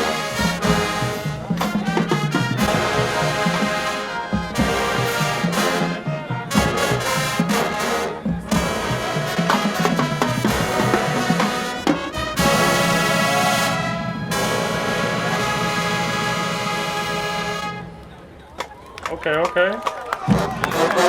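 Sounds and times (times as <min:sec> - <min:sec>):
marching band playing: 0:00.0 - 0:18.7, 0:20.2 - 0:21.0.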